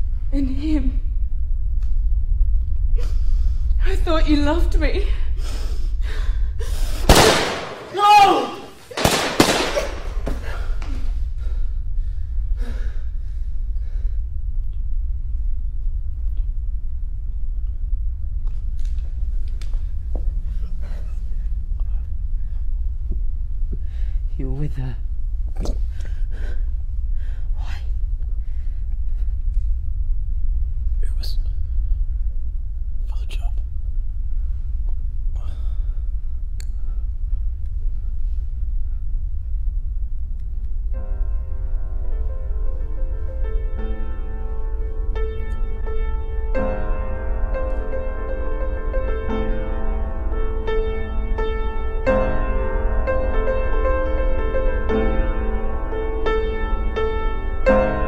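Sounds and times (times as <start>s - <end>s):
deep rumble: 0.0s - 7.8s, 8.9s - 58.0s.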